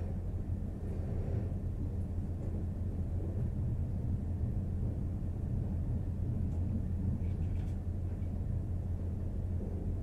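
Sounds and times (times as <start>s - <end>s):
engine room machinery drone: 0.0s - 10.0s.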